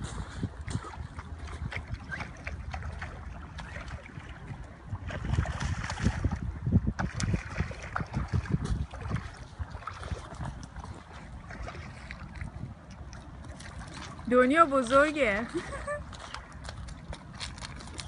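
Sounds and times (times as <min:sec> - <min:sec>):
river water running: 0:00.0 - 0:18.0
wind rumbling on microphone: 0:00.0 - 0:18.0.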